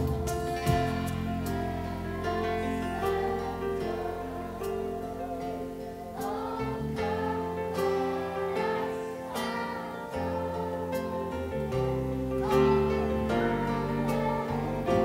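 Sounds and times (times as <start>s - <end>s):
held chords: 0.0s - 15.0s
plucked string notes: 0.0s - 15.0s.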